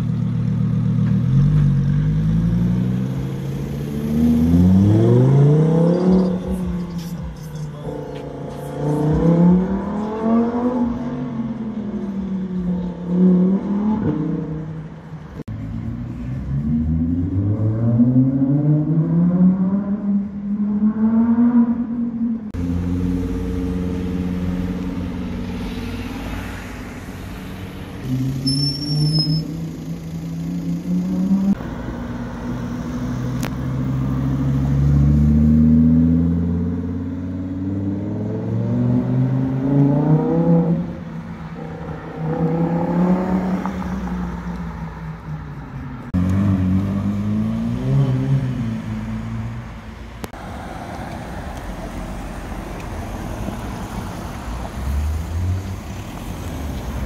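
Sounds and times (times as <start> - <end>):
car engines accelerating: 0.0 - 57.0.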